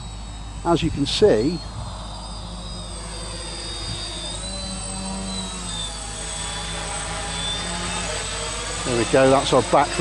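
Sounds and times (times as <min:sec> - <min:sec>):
quadcopter motors buzzing: 0:00.0 - 0:10.0.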